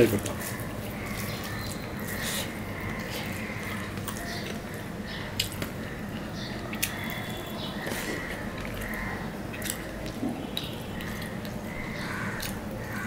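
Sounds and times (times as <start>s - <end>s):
fingers squishing rice and curry: 0.0s - 13.0s
chewing: 0.4s - 13.0s.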